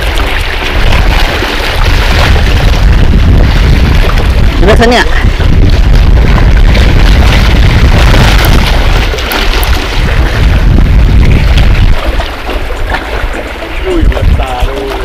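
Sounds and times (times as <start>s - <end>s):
waves washing against rocks: 0.0s - 15.0s
wind buffeting microphone: 0.0s - 15.0s.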